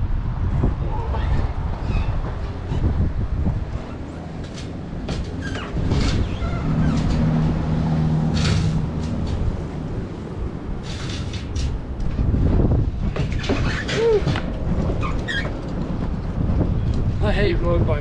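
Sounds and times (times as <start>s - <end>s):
vehicle engine rumble: 0.0s - 18.0s
wind noise: 0.0s - 18.0s.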